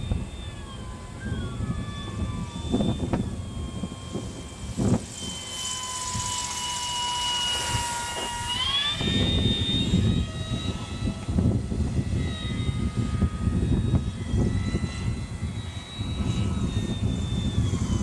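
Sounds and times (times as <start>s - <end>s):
electric motor and propeller whining: 0.0s - 18.0s
wind noise on microphone: 0.0s - 18.0s.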